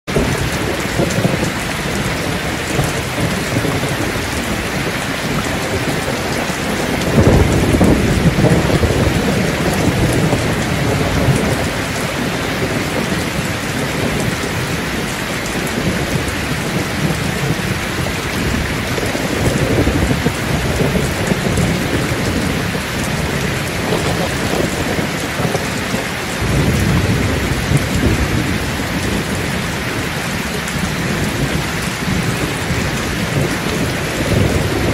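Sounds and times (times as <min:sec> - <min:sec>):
heavy rain on road: 0:00.1 - 0:34.9.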